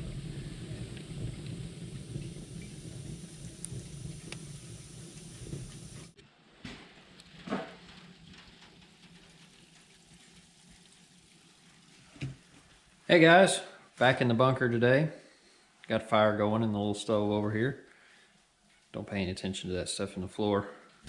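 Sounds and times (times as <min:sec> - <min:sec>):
wood fire crackling and popping: 0:00.0 - 0:14.5, 0:15.8 - 0:19.6.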